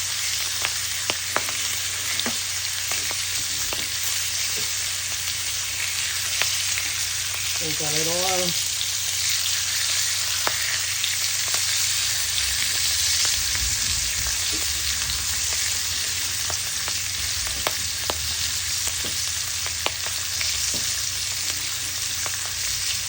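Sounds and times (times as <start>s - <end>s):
fish sizzling on a grill: 0.0s - 23.0s.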